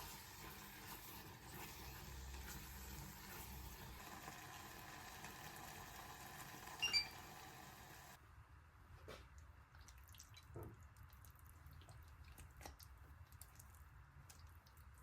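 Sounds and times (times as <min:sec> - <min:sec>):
faint steady kitchen background: 0:00.0 - 0:15.0.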